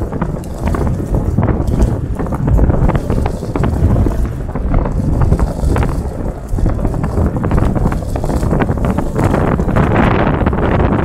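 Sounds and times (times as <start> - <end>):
stones clicking against vehicle: 0.0 - 11.0
tyres crunching gravel: 0.0 - 11.0
vehicle rumbling over gravel: 0.0 - 11.0.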